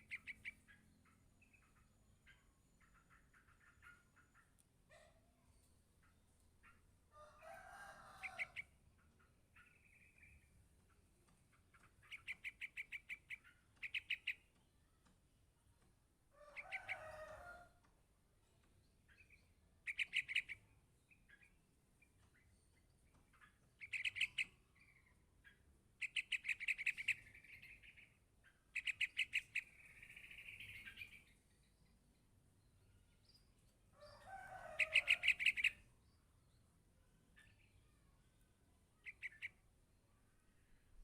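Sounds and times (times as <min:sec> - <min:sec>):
bird chick chirping: 0:00.0 - 0:14.7, 0:16.4 - 0:31.8, 0:33.0 - 0:41.0.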